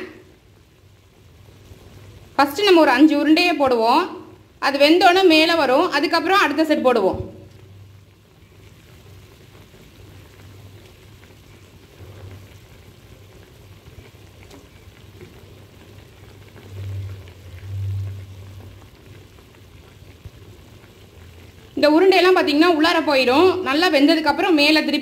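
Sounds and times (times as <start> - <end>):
curry bubbling in a pan: 0.0 - 25.0.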